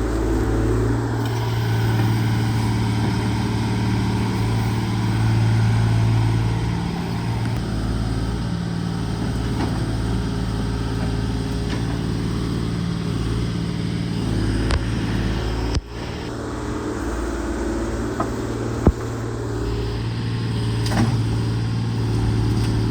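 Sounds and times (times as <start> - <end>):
excavator engine humming: 0.0 - 22.9.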